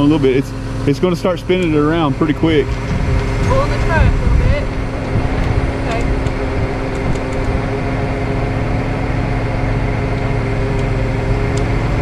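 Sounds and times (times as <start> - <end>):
truck engine running under load: 0.0 - 12.0
winch humming: 0.0 - 12.0.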